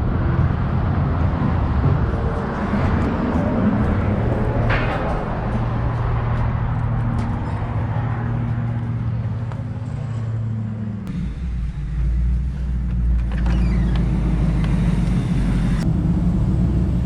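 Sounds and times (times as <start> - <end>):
car engine hum: 0.0 - 17.0
road noise: 0.0 - 17.0.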